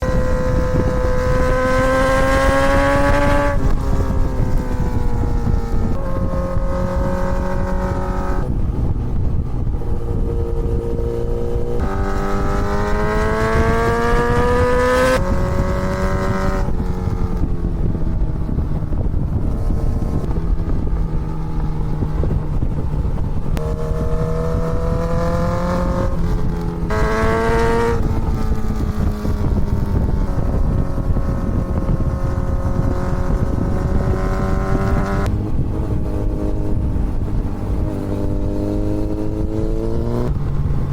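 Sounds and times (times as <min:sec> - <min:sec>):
motorcycle engine shifting gears: 0:00.0 - 0:40.9
wind noise: 0:00.0 - 0:40.9.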